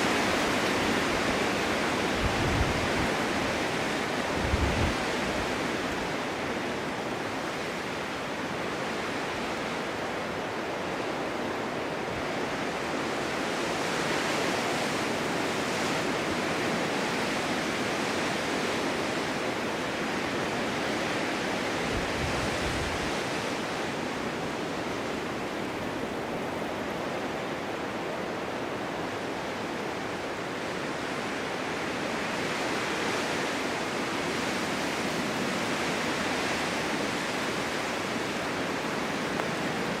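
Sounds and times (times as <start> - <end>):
low wind buffet: 0.0 - 40.0
wind blowing in snowstorm: 0.0 - 40.0.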